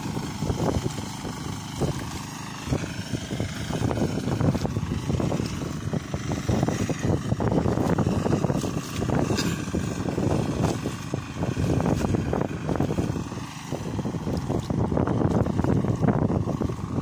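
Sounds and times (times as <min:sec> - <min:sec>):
hand tractor engine running: 0:00.0 - 0:17.0.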